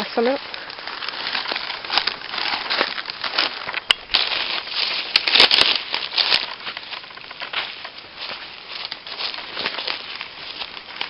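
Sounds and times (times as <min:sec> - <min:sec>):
rustling and crackling: 0:00.0 - 0:11.0.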